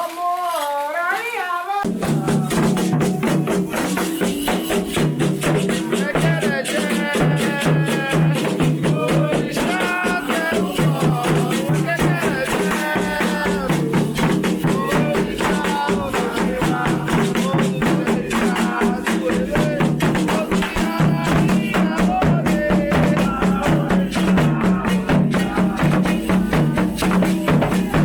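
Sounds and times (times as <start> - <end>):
voices singing: 0.0 - 28.0
drums and rattles beat: 1.8 - 28.0.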